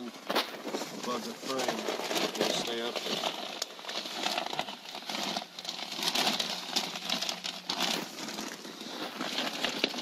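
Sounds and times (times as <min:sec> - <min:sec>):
insulation rustling and crinkling: 0:00.0 - 0:10.0.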